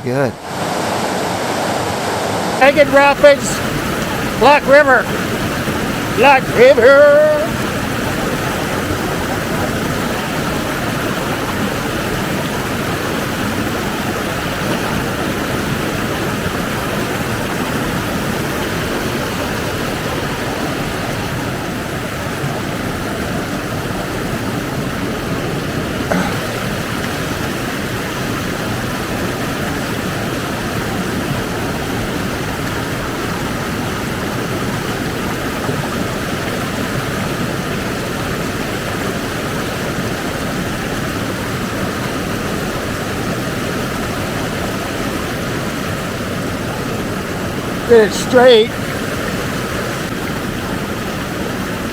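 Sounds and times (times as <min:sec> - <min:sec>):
river rapids rushing: 0:00.0 - 0:51.9.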